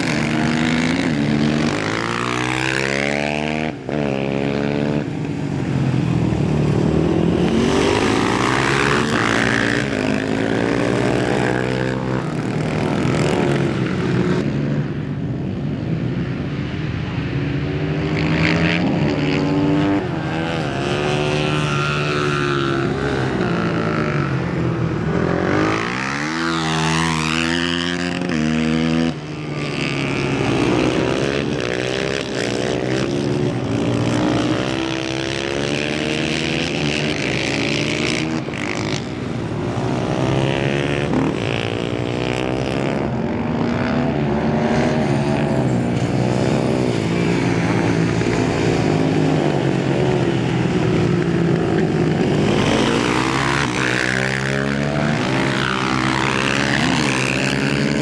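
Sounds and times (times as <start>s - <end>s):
motorcycle engines revving: 0.0s - 58.0s
motorcycle passing close: 0.0s - 58.0s.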